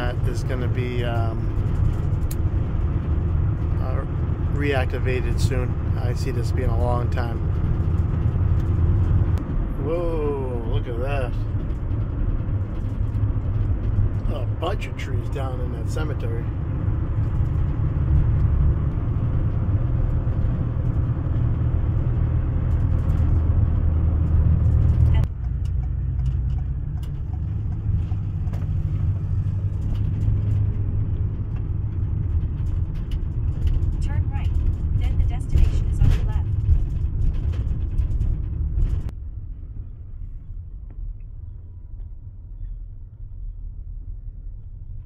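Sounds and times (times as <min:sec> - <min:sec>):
car interior road rumble: 0:00.0 - 0:45.0.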